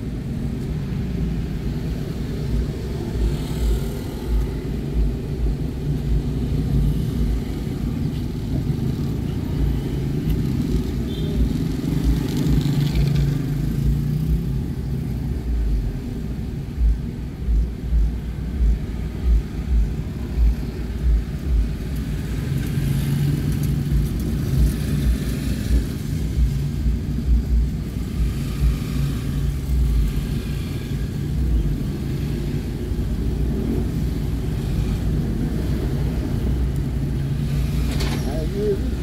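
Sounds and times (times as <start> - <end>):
engine and road rumble: 0.0 - 39.0.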